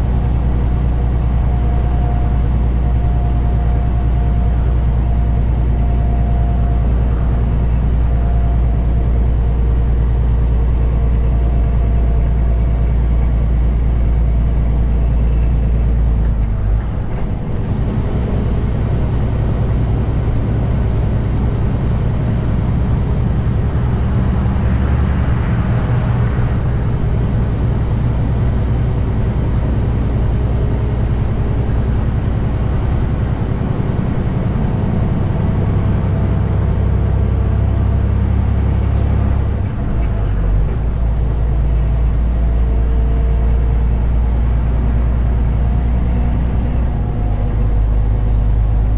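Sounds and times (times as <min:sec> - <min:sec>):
diesel truck engine droning: 0:00.0 - 0:48.9.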